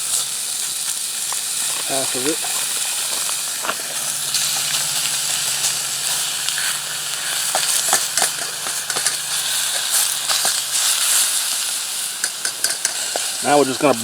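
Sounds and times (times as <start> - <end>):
fat popping and crackling: 0.0 - 14.0
meat sizzling in a pan: 0.0 - 14.0.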